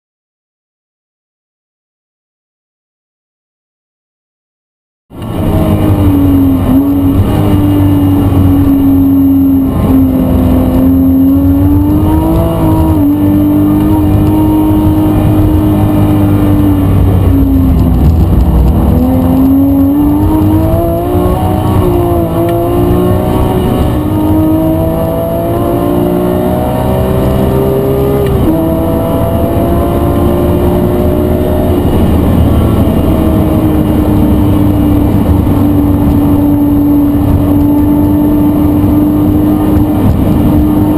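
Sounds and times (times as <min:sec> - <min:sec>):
car engine revving high: 0:05.1 - 0:40.9.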